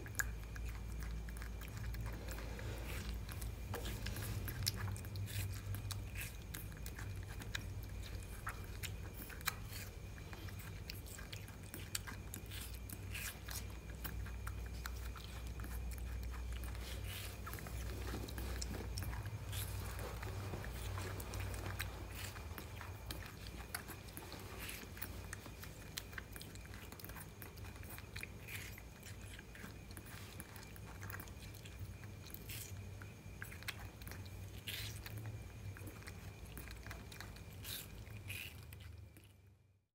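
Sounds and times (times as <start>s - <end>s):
monkey chewing watermelon: 0.0s - 39.7s
steady low hum: 0.0s - 39.9s.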